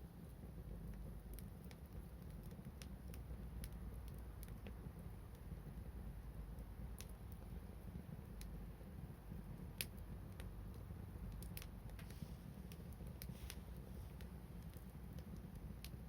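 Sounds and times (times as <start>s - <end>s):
faint low rumble: 0.0s - 16.0s
wood fire crackling: 0.0s - 16.0s.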